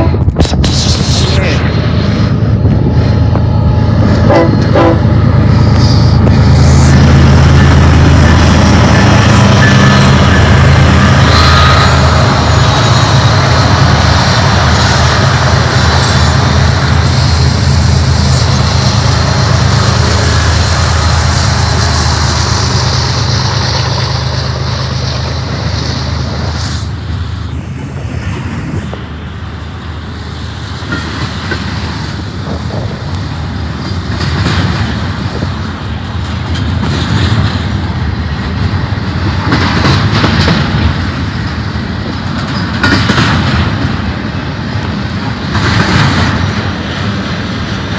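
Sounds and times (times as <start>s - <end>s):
diesel locomotive engines droning: 0.0s - 47.9s
train wheels rumbling on rails: 0.0s - 47.9s.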